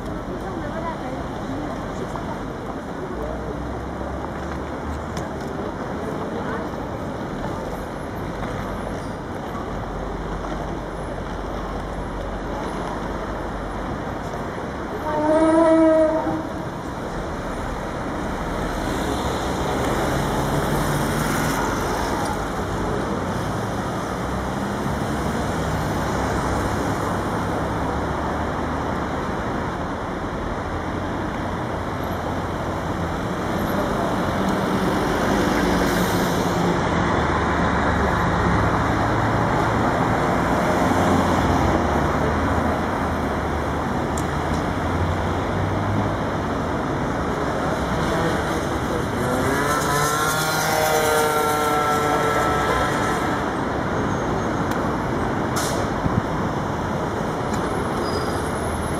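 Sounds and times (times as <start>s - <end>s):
cars passing by: 0.0s - 58.9s
road noise hum: 0.0s - 58.9s.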